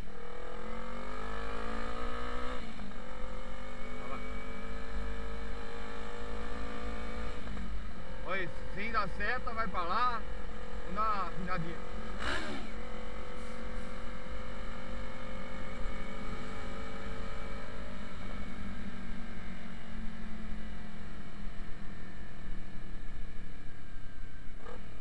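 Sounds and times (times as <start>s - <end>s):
motorcycle engine running: 0.0s - 25.0s
wind and road rush: 0.0s - 25.0s.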